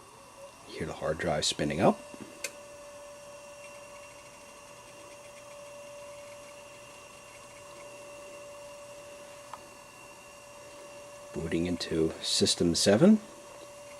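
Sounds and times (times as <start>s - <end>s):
hard drive whine: 0.0s - 13.9s.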